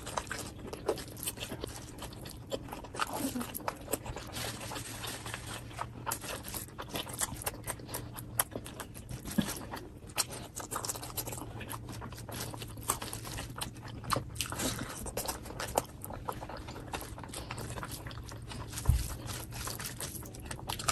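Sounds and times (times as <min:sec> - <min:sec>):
person chewing crunchy food: 0:00.0 - 0:20.9.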